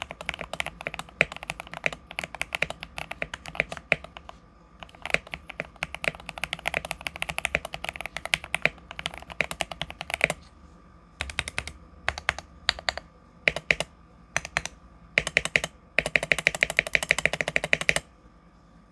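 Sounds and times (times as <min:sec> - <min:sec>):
mechanical keyboard typing: 0:00.0 - 0:10.5, 0:11.2 - 0:18.1.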